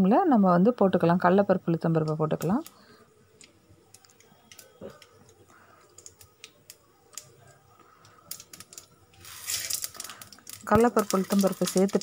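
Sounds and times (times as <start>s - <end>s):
seeds popping in hot oil: 1.7s - 12.0s.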